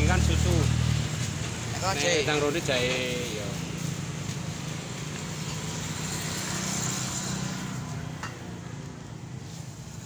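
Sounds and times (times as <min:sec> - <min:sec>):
road vehicle passing: 0:00.0 - 0:10.0.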